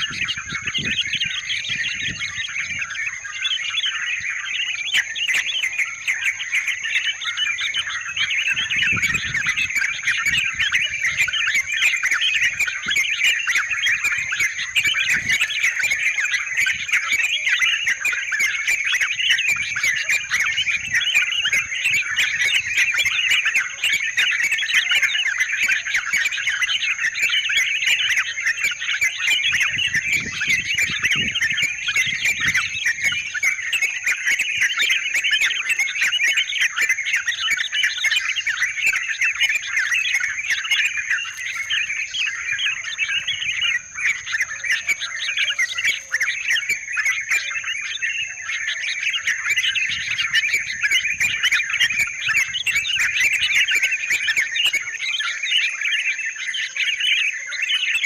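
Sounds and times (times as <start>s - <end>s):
bulbuls chattering chorus: 0.0s - 58.0s.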